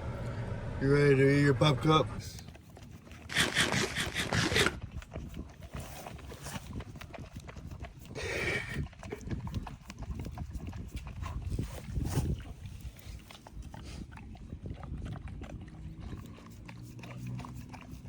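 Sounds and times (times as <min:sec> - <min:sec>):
dog licking and chewing: 0:02.3 - 0:18.0.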